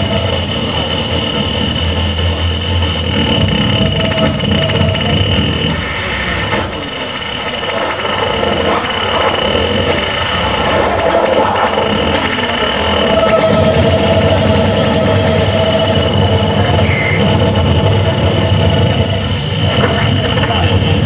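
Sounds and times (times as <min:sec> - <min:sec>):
harsh electronic noise music: 0:00.0 - 0:21.0.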